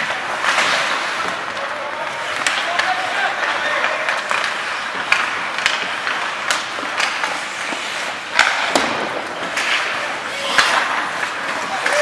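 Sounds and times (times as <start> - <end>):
hockey sticks and puck clacking: 0.0 - 12.0
skate blades scraping ice: 0.0 - 12.0.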